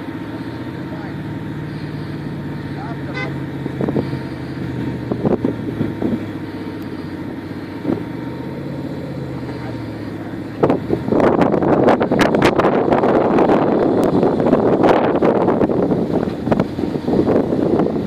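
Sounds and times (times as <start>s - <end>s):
loud rough rushing noise: 0.0s - 18.0s
off-road vehicle engine running: 0.0s - 18.0s.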